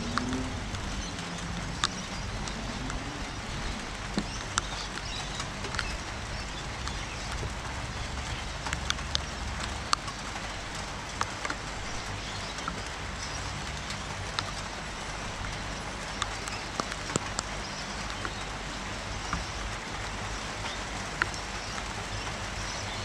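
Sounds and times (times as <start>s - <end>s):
raindrops tapping close: 0.0s - 23.0s
steady rain: 0.0s - 23.0s.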